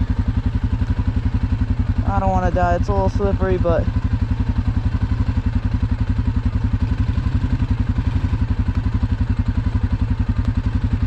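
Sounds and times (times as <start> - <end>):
single-cylinder engine running: 0.0 - 11.0.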